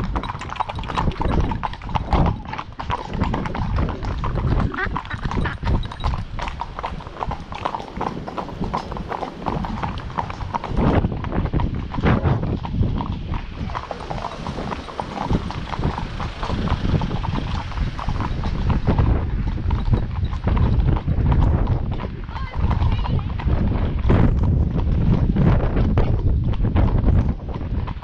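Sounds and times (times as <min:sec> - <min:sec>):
hooves clip-clopping on tarmac: 0:00.0 - 0:28.0.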